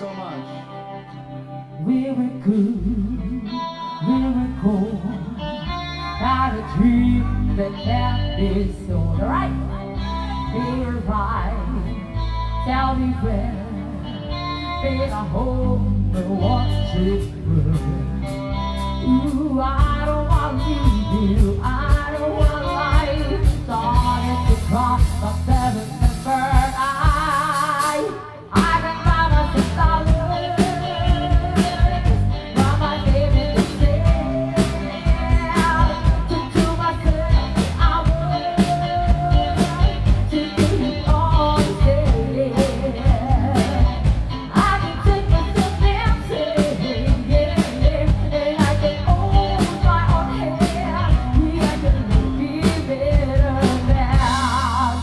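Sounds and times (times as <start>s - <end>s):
live rock band with singer: 0.0s - 55.0s.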